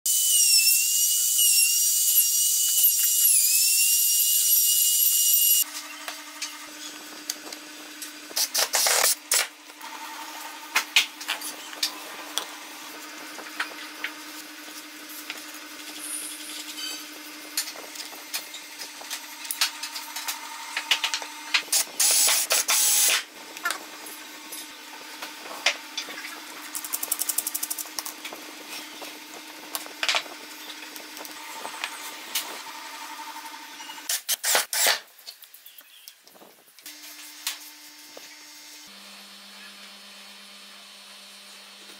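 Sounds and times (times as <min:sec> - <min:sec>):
power tool whirring: 0:00.1 - 0:35.0.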